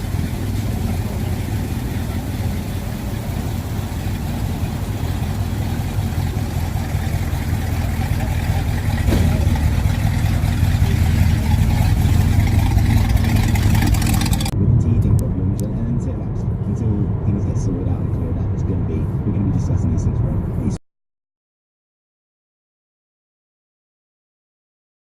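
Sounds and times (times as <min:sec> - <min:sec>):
car engine idling: 0:00.0 - 0:20.8.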